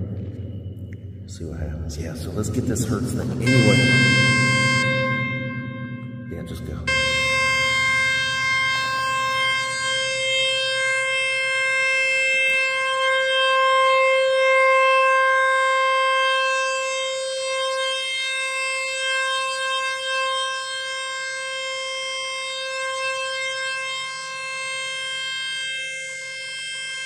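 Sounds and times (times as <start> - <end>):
buzzy electronic test tone: 0.0 - 27.0.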